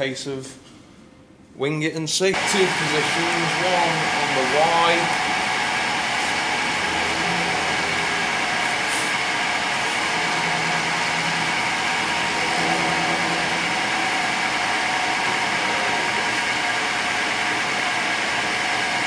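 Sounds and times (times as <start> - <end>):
milling machine whining: 2.4 - 19.0.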